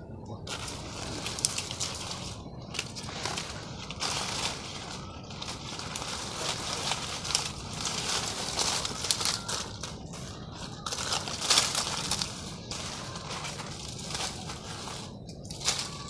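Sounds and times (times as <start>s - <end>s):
dry sticks and leaves crackling: 0.2s - 16.0s.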